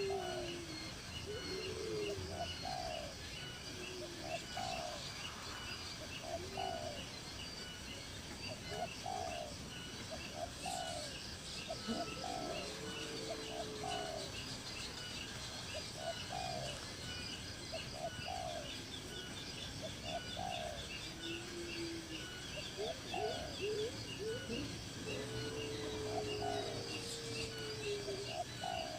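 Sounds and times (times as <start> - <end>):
bird low call: 0.0 - 28.9.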